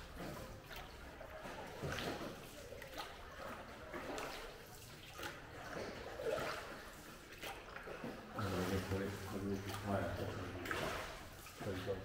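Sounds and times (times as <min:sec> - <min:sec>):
oars splashing in water: 0:00.0 - 0:12.0.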